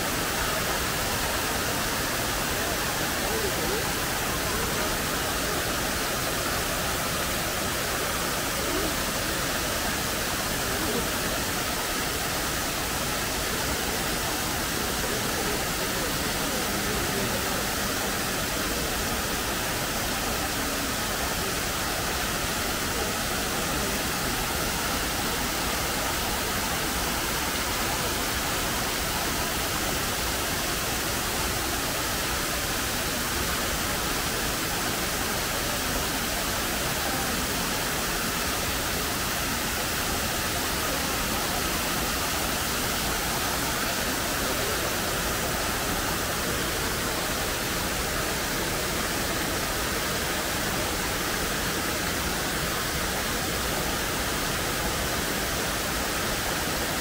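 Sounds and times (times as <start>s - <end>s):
waterfall splashing into pool: 0.0s - 57.0s.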